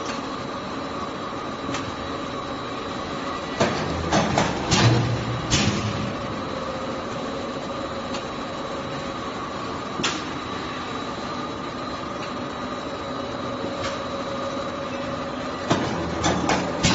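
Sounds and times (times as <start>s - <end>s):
factory machinery hum and whine: 0.0s - 16.9s.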